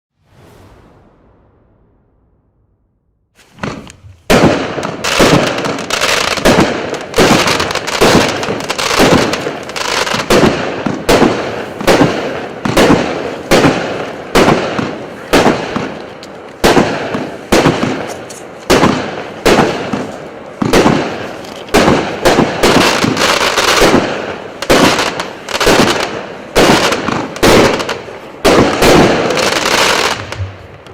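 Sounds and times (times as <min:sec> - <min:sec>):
fireworks firing sharp reports: 0:03.4 - 0:30.9.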